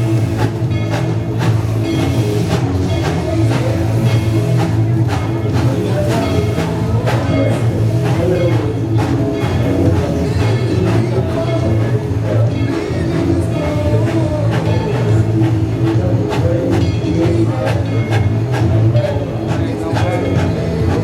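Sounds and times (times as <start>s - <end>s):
music with drums: 0.0s - 21.0s.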